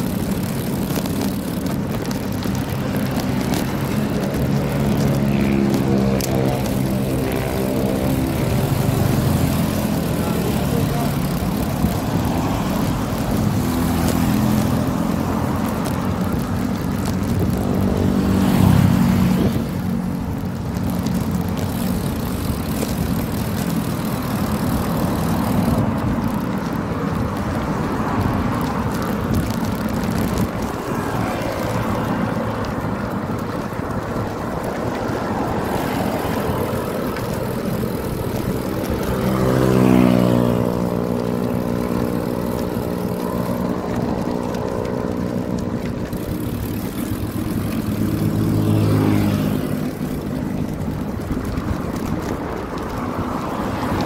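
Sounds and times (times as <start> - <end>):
passing vehicle engine: 0.0 - 54.0
road noise: 0.0 - 54.0
wind on microphone: 0.0 - 54.0.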